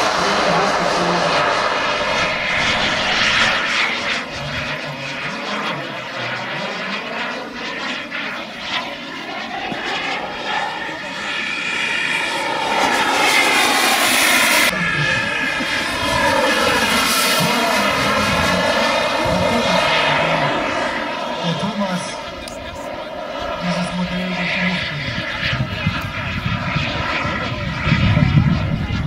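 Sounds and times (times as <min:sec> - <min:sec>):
model jet engines whining: 0:00.0 - 0:29.0.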